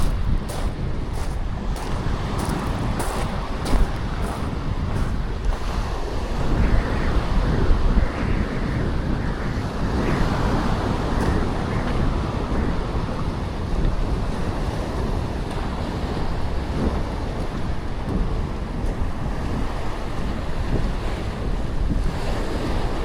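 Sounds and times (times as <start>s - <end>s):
surf washing on shore: 0.0s - 23.0s
wind buffeting microphone: 0.0s - 23.0s.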